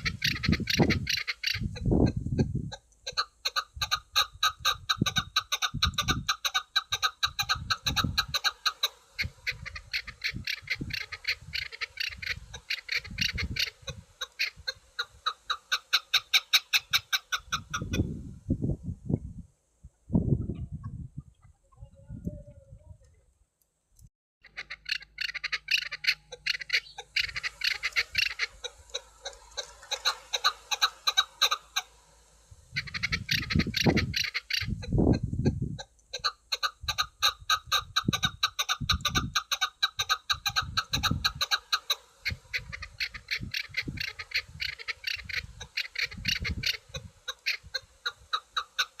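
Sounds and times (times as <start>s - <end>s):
partridge clucking calls: 0.0s - 18.1s, 24.4s - 49.0s.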